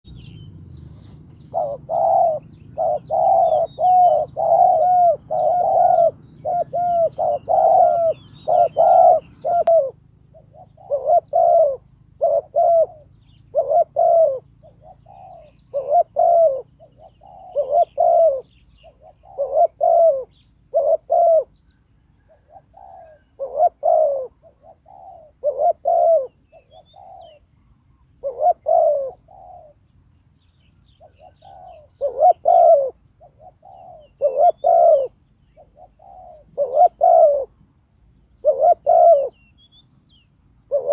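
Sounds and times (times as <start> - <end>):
small birds chirping: 0.0 - 40.9
dove cooing: 0.1 - 29.9, 30.8 - 37.6, 38.3 - 39.7, 40.6 - 40.9.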